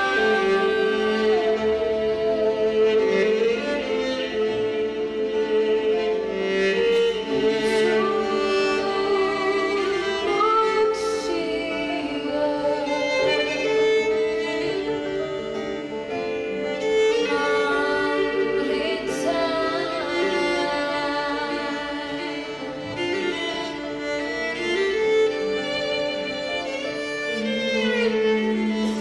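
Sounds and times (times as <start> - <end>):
sustained accompaniment: 0.0 - 29.0
violin playing slow melody: 0.0 - 29.0.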